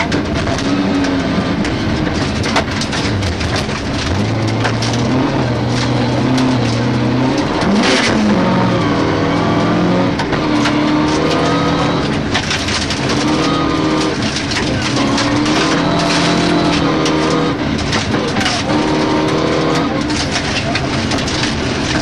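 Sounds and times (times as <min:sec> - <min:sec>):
gravel clattering against car: 0:00.0 - 0:22.0
rally car engine from inside: 0:00.0 - 0:22.0.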